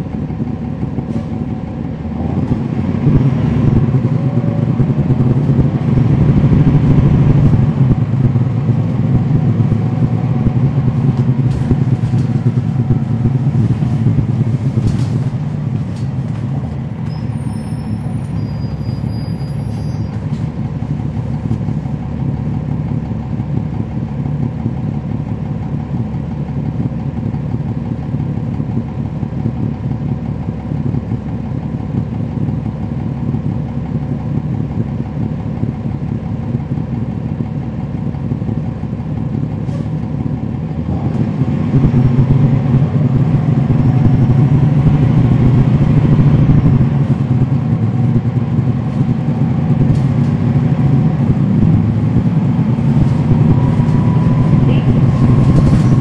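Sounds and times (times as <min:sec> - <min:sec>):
bus diesel engine humming: 0:00.0 - 0:56.0.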